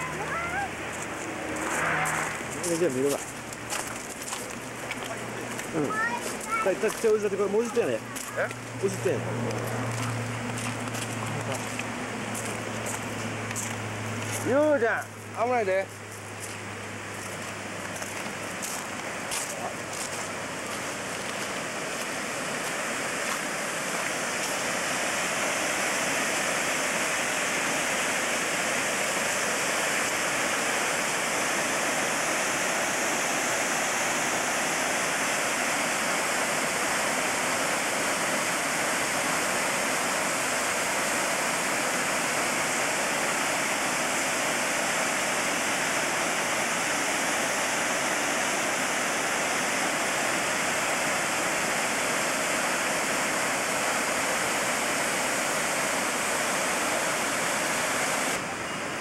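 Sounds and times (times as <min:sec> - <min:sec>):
waterfall rushing: 0:00.0 - 0:15.8, 0:17.6 - 0:58.9.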